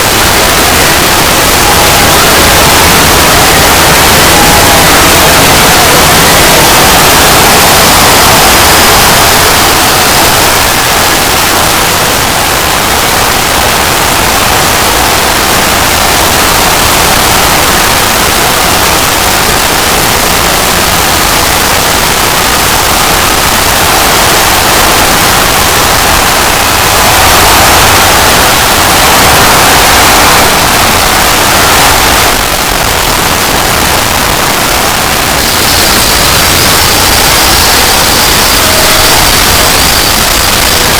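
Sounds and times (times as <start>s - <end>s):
harsh loud static noise: 0.0s - 40.9s.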